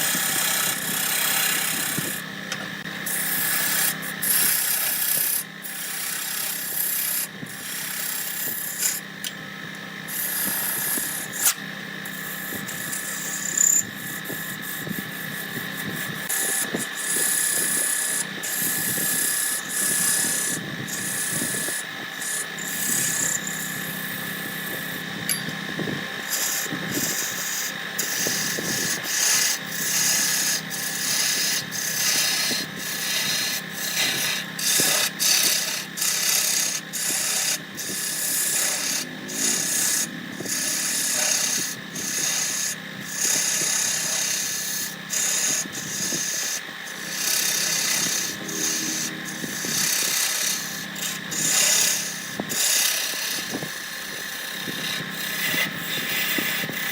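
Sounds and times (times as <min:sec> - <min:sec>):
turning tool scraping wood: 0:00.0 - 0:56.9
wood lathe humming: 0:00.0 - 0:56.9.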